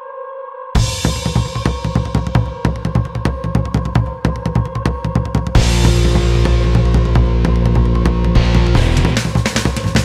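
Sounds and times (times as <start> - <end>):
fast drum kit beat: 0.8 - 10.0.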